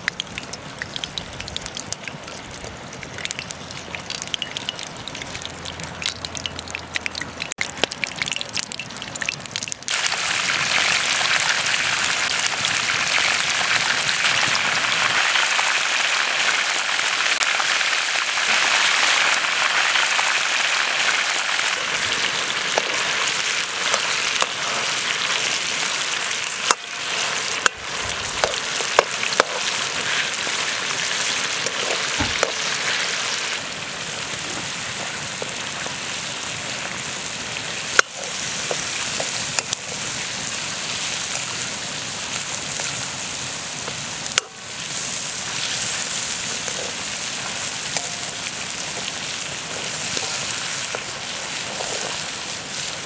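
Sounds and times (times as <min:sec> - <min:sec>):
chicken frying in hot oil: 0:00.0 - 0:53.0.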